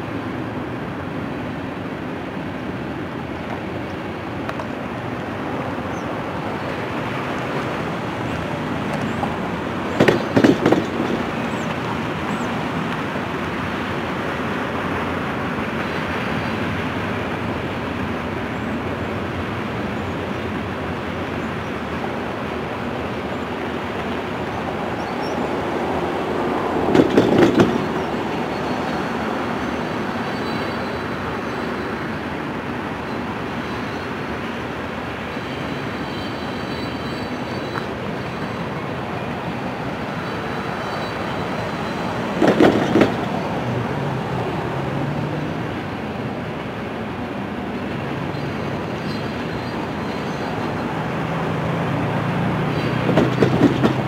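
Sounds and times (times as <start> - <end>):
freight train rumbling over bridge: 0.0 - 54.0.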